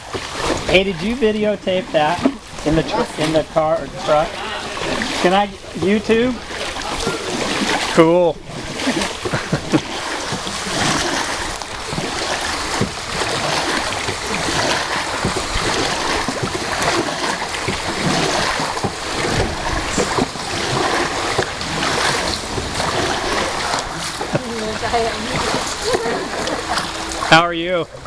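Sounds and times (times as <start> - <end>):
constant rumble: 0.0 - 28.0
rushing water from boat: 0.0 - 28.0
small water splashes: 0.0 - 28.0.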